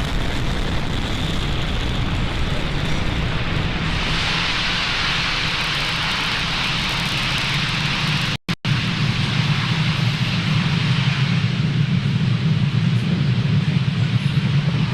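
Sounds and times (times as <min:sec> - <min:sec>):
rocket engines rumbling: 0:00.0 - 0:14.9.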